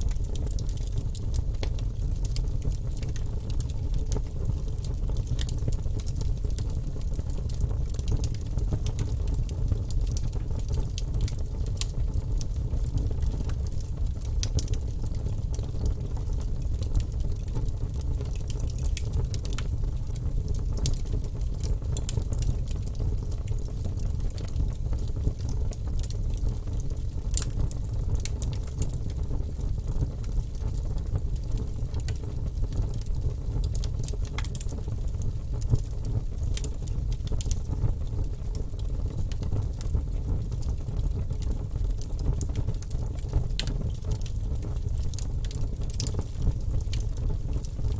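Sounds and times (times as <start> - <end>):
fire crackles and pops: 0.0 - 47.9
fire rumbling in fireplace: 0.0 - 47.9.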